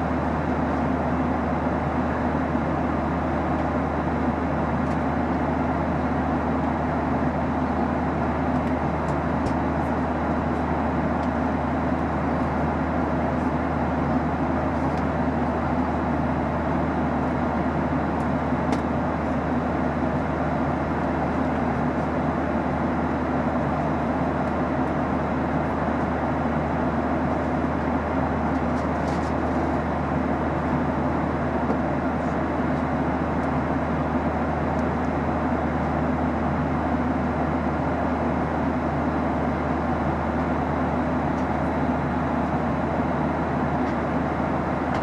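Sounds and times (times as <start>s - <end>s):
constant low hum: 0.0s - 45.0s
jet engine drone: 0.0s - 45.0s.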